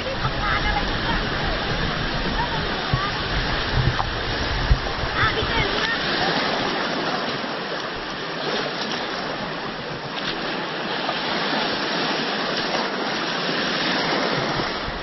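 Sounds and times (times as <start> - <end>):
shallow seawater swishing: 0.0 - 15.0.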